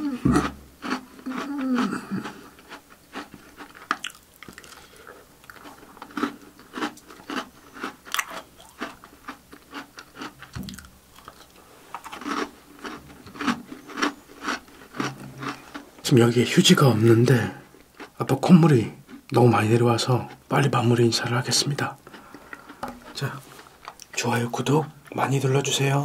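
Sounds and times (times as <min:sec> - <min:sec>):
person chewing crunchy cookie: 0:00.0 - 0:16.2, 0:17.3 - 0:19.4, 0:20.2 - 0:25.2.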